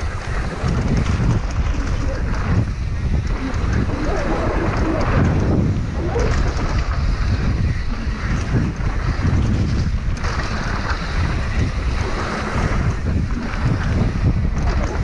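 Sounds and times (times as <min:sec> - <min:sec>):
bike clicks and rattles: 0:00.0 - 0:15.0
bike tyres rolling on gravel: 0:00.0 - 0:15.0
wind on microphone: 0:00.0 - 0:15.0.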